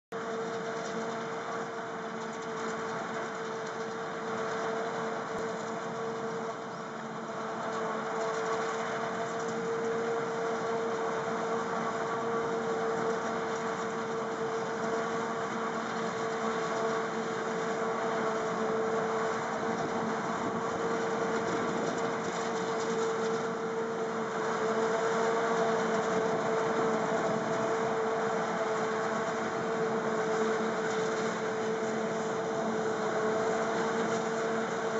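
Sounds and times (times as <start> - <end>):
harvester machine drone: 0.2 - 34.9.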